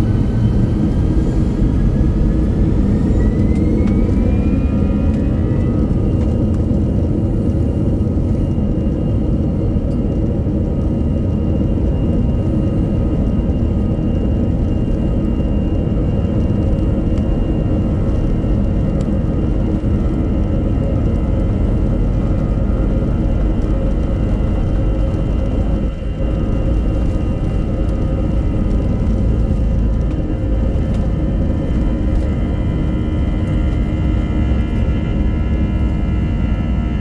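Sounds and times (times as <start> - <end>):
jet engines rumbling in cabin: 0.0 - 37.0.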